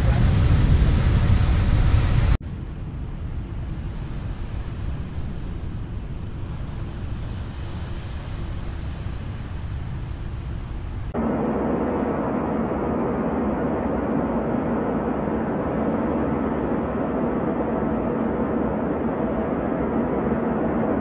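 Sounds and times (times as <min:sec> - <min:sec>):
erupting volcano rumble: 0:00.0 - 0:21.0
wind and water rumble: 0:00.0 - 0:21.0.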